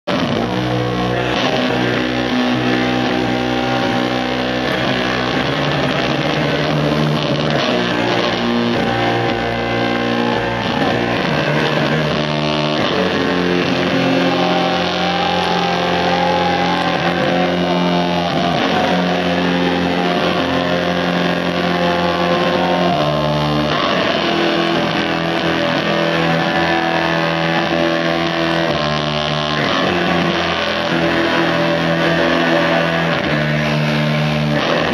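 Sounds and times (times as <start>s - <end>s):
electric bass guitar: 0.0s - 34.9s
live rock band playing: 0.1s - 34.9s.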